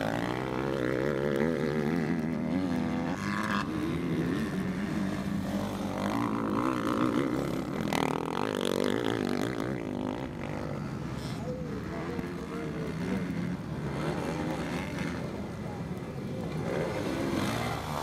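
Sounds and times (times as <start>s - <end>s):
dirt bike engines revving: 0.0s - 18.0s
dirt bike passing close: 0.0s - 18.0s.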